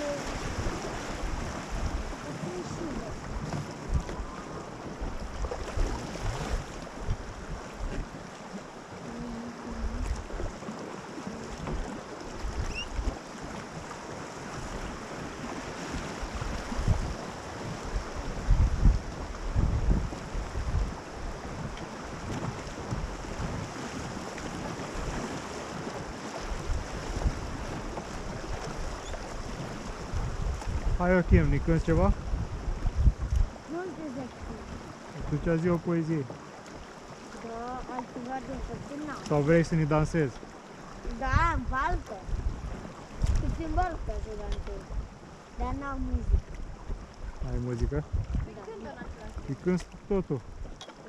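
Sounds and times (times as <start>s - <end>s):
river water rushing and splashing: 0.0s - 51.0s
wind rumbling on microphone: 0.0s - 51.0s.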